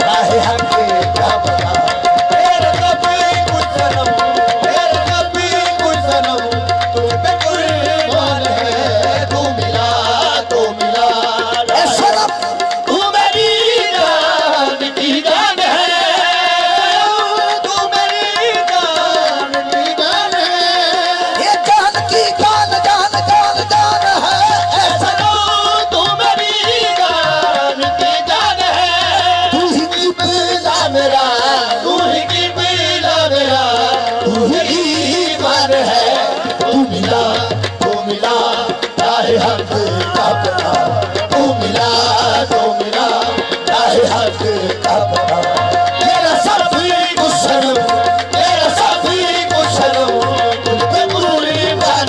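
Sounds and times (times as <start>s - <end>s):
harmonium: 0.0s - 52.0s
people singing: 0.0s - 52.0s
tabla: 0.0s - 52.0s.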